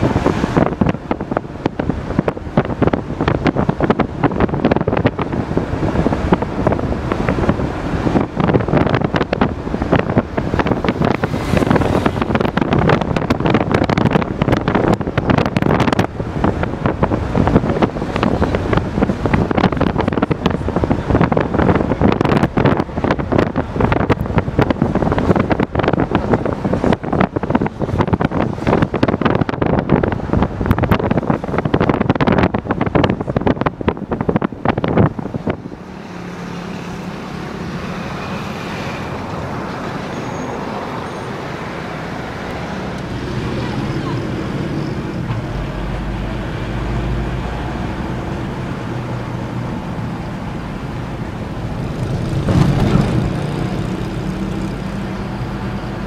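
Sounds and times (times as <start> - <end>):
car engine: 0.0 - 56.0
traffic: 0.0 - 56.0
wind buffeting microphone: 0.0 - 56.0.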